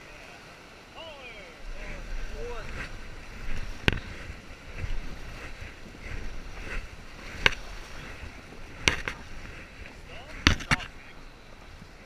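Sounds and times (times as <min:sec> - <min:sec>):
paddles in water: 0:00.0 - 0:12.0
river rushing: 0:00.0 - 0:12.0.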